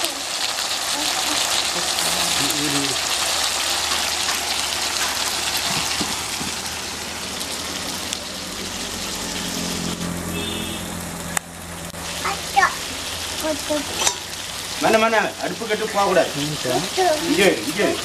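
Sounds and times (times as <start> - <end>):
curry sizzling in a pot: 0.0 - 18.0.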